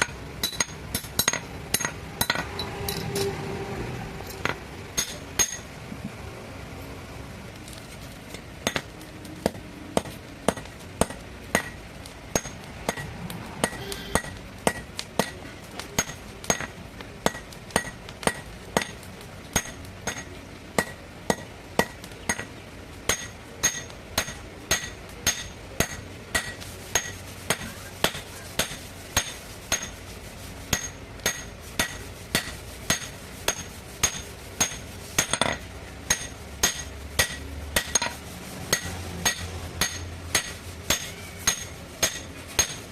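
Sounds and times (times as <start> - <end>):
hammer striking metal on anvil: 0.0 - 3.3, 4.3 - 5.7, 8.6 - 15.4, 16.0 - 22.5, 23.1 - 30.0, 30.7 - 42.9.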